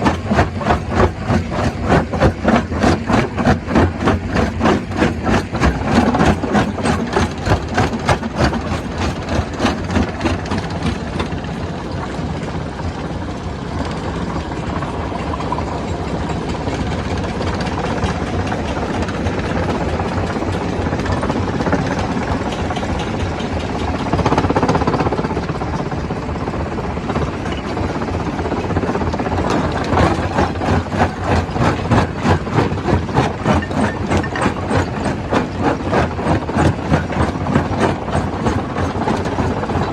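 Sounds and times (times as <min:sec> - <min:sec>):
stone crusher rumbling and knocking: 0:00.0 - 0:39.9.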